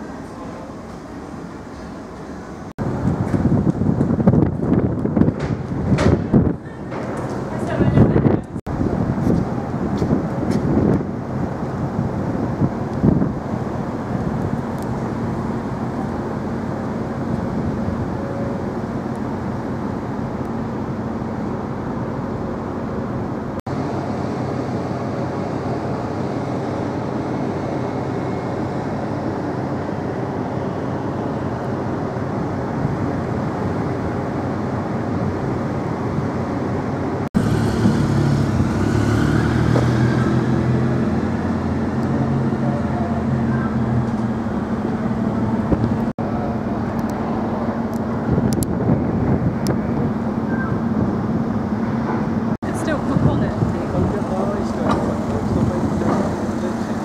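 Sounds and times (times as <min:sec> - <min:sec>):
ferry engines droning: 0:00.0 - 0:57.0.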